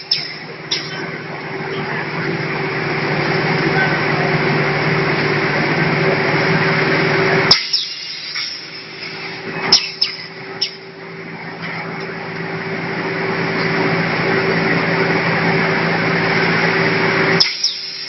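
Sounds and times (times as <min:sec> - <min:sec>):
heat tunnel fan rush and hum: 0:00.0 - 0:18.0.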